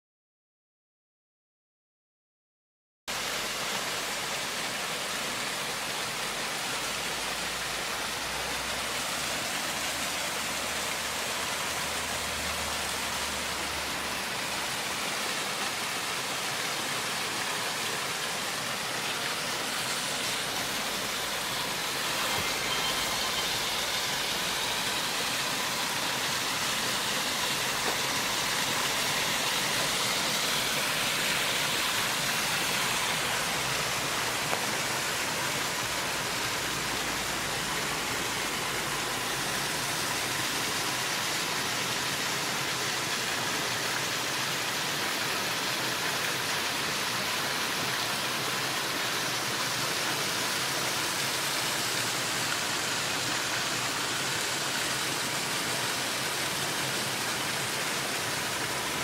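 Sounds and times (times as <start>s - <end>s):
waterfall rushing: 3.1s - 59.0s.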